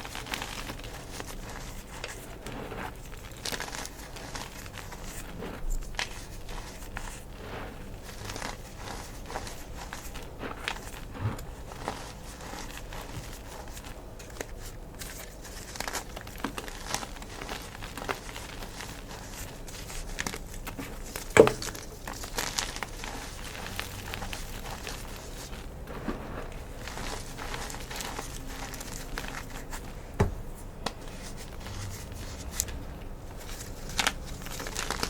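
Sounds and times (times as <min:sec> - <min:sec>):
chalk crackling and crumbling: 0:00.0 - 0:35.0.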